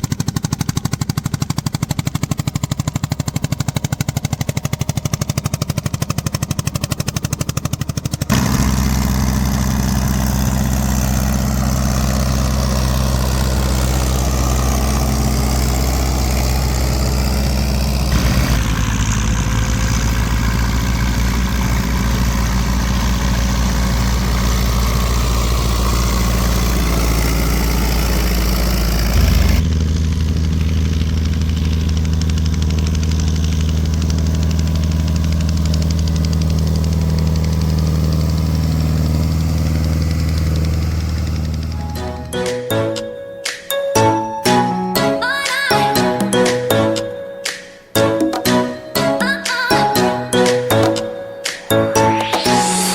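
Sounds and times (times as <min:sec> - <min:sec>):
tractor engines running: 0:00.0 - 0:52.9.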